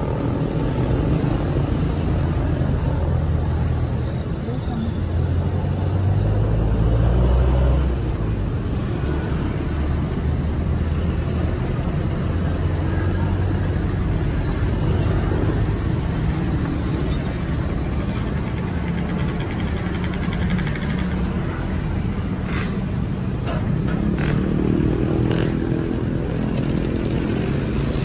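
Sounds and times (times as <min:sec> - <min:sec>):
vehicle engines rumbling: 0:00.0 - 0:28.0.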